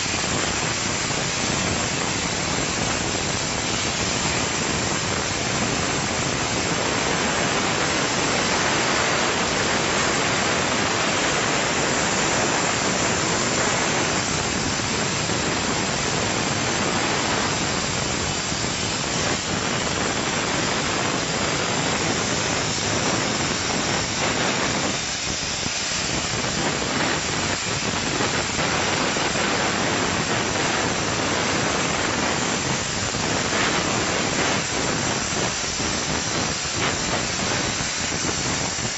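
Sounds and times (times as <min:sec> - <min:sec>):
plasma arc hissing: 0:00.0 - 0:38.9.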